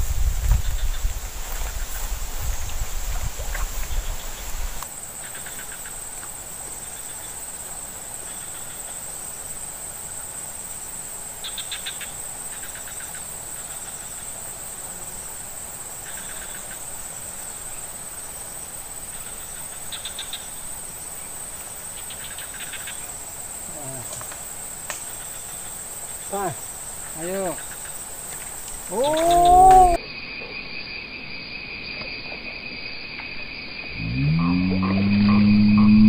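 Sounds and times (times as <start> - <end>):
insects buzzing drone: 0.0 - 36.0
pulsing insect trills: 0.0 - 36.0.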